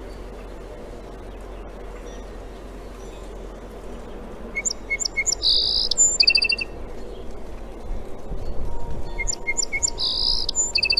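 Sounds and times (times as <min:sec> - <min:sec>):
background hiss: 0:00.0 - 0:10.9
songbird singing: 0:00.0 - 0:10.9.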